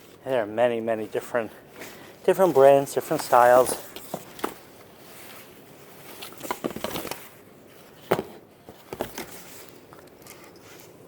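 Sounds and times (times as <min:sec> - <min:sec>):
fabric rustling: 0:01.0 - 0:11.0.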